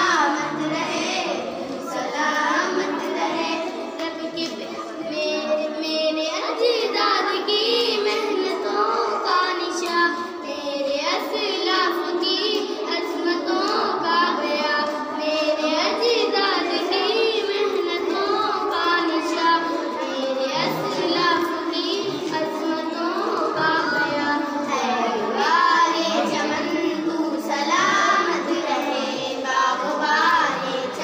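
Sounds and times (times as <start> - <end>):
girls singing into microphone: 0.0 - 31.0.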